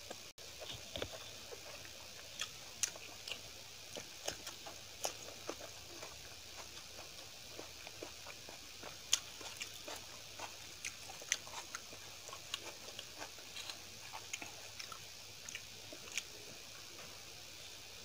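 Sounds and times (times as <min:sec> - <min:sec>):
person chewing soft food: 0:00.0 - 0:17.8.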